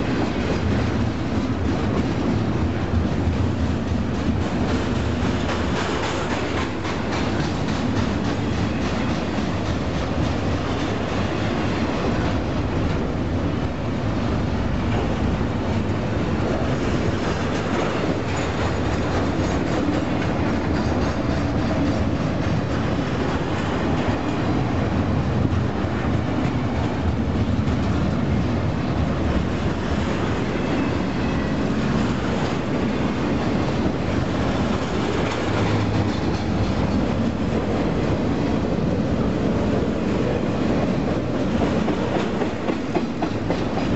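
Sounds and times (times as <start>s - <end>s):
freight train wheels on rails: 0.0s - 43.9s.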